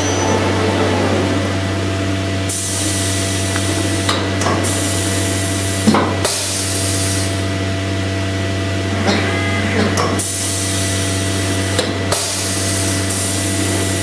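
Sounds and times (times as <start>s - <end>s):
machinery hum: 0.0s - 14.0s.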